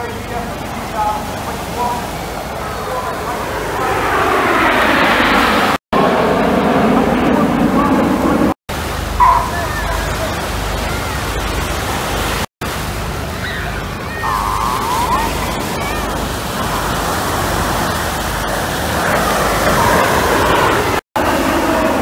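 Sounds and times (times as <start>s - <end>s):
distant jets roaring: 0.0s - 22.0s.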